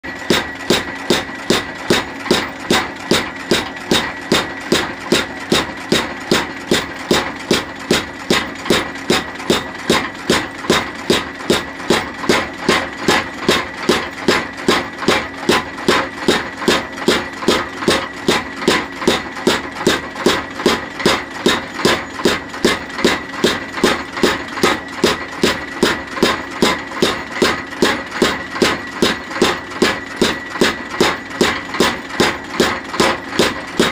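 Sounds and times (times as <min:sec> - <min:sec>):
machine hum: 0:00.0 - 0:33.9
power hammer striking hot steel: 0:00.1 - 0:33.9.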